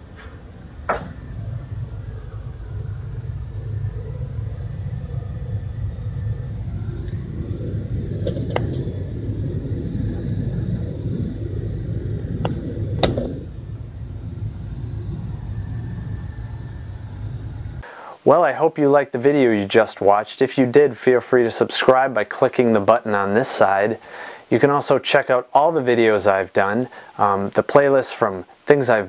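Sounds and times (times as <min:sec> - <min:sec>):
furnace blower rumble: 0:00.0 - 0:24.9, 0:26.7 - 0:27.6.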